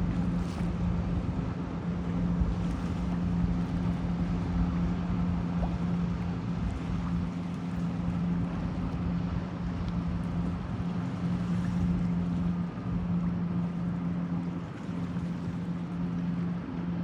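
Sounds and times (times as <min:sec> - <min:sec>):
ship engine humming: 0:00.0 - 0:17.0.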